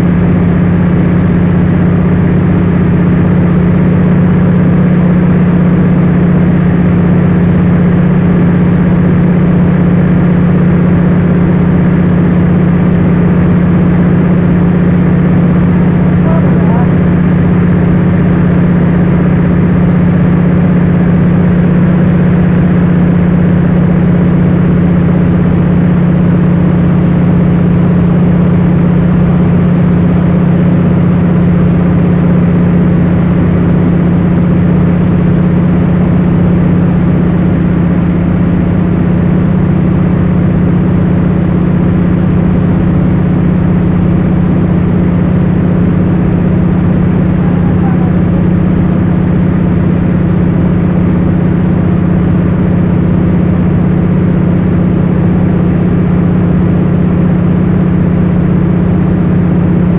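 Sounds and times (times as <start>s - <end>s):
plane engine drone in cabin: 0.0s - 59.9s.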